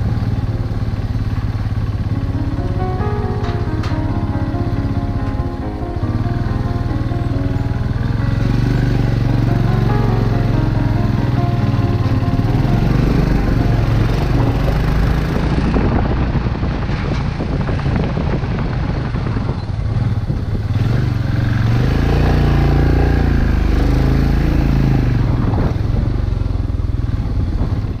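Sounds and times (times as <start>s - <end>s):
motorcycle engine revving: 0.0s - 4.4s, 6.0s - 28.0s.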